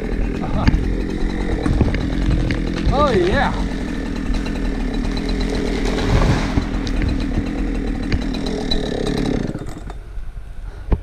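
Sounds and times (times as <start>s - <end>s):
chainsaw running: 0.0s - 10.2s.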